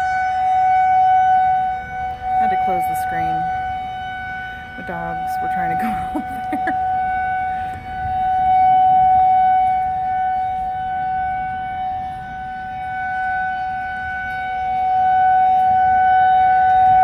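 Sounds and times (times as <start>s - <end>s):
tornado siren steady tone: 0.0s - 17.0s.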